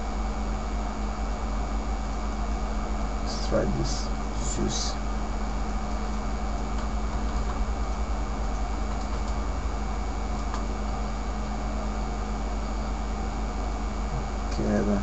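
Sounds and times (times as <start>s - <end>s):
faint high whine: 0.0s - 15.0s
fan-like noise: 0.0s - 15.0s
low electrical drone: 0.0s - 15.0s.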